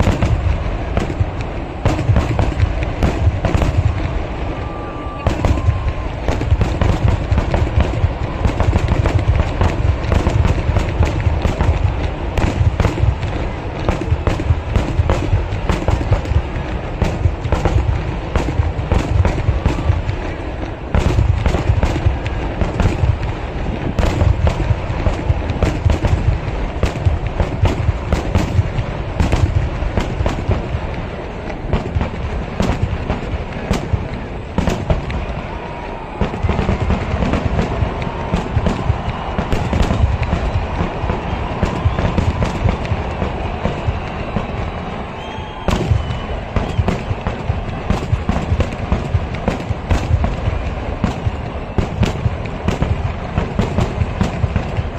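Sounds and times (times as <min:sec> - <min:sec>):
fireworks cracking and booming: 0:00.0 - 0:54.9.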